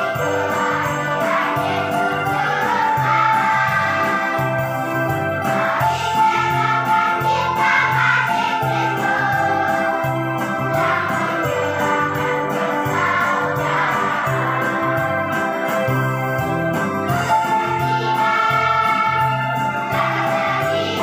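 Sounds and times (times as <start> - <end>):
children's choir singing: 0.0 - 21.0
instrumental accompaniment with beat: 0.0 - 21.0.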